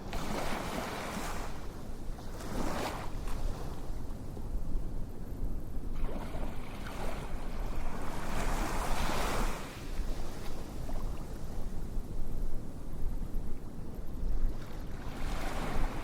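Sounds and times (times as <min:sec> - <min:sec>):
ocean surf rumble: 0:00.0 - 0:16.0.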